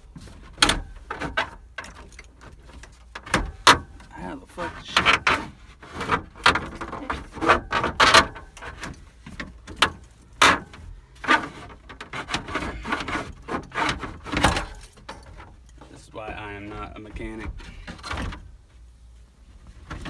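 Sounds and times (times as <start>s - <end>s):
plastic trim knocking and scraping: 0.0s - 18.8s, 19.6s - 20.0s.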